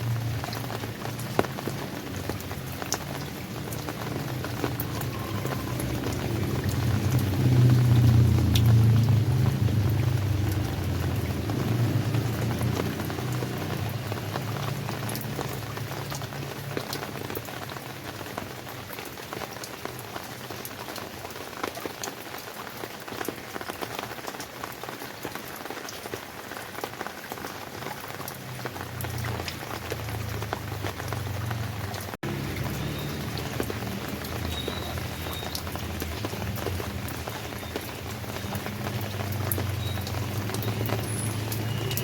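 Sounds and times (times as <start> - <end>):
steady rain with drop ticks: 0.0 - 42.0.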